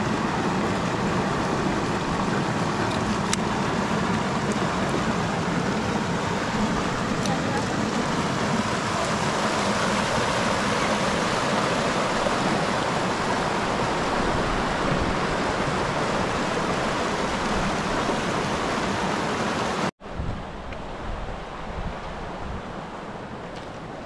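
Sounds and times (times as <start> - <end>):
stream rushing over stones: 0.0 - 19.9.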